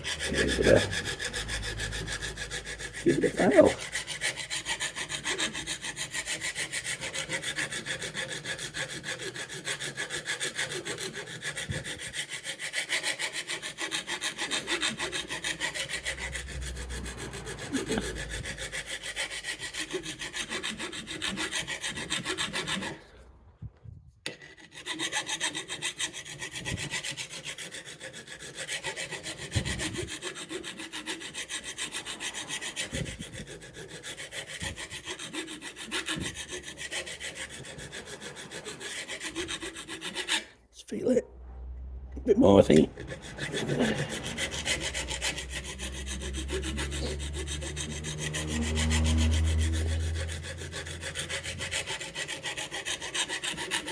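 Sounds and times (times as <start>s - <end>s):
hand file rasping on steel blade: 0.0s - 23.5s, 24.2s - 41.2s, 42.4s - 53.9s.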